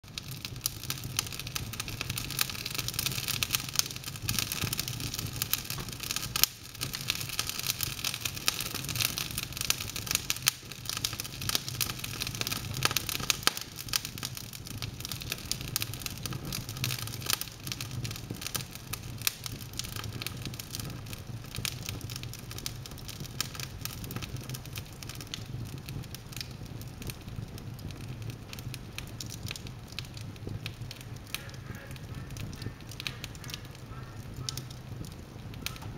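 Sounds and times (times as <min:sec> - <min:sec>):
log fire crackling: 0:00.0 - 0:35.9.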